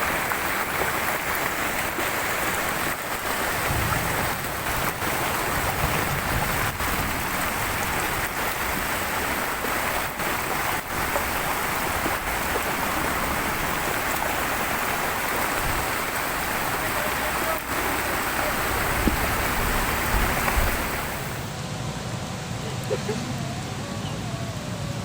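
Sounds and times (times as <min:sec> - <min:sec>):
waterfall rushing: 0:00.0 - 0:21.6.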